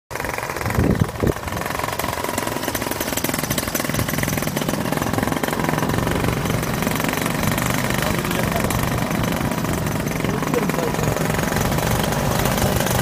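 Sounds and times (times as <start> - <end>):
paramotor engine running: 0.1 - 13.0.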